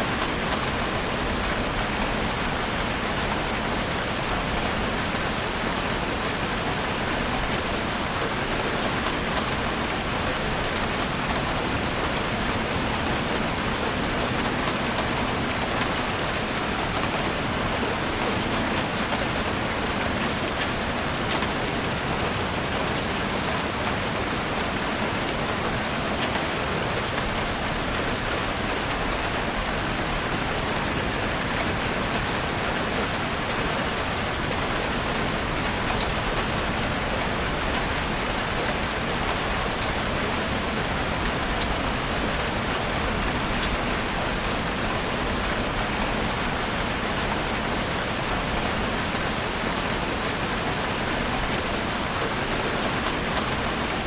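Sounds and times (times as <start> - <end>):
heavy rain drumming on a roof: 0.0 - 54.0.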